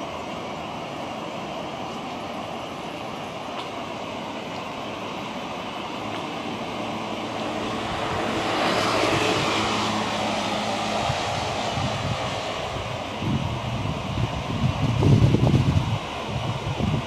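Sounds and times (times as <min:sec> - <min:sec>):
passing engine hum: 0:00.0 - 0:17.0.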